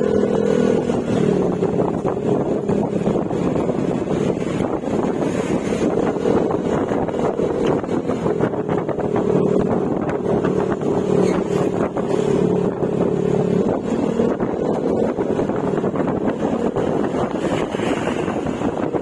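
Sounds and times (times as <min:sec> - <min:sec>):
scooter engine cruising: 0:00.0 - 0:19.0
wind rushing over microphone: 0:00.0 - 0:19.0.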